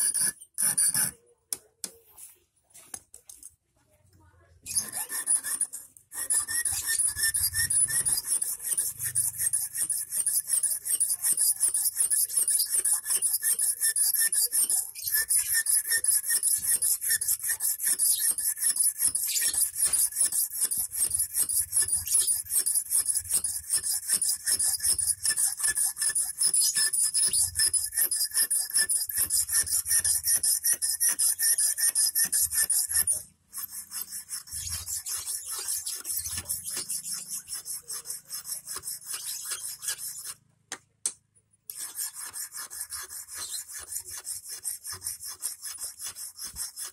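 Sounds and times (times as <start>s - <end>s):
hand file rasping on steel wire: 0.0s - 2.2s, 4.6s - 40.4s, 41.7s - 46.9s.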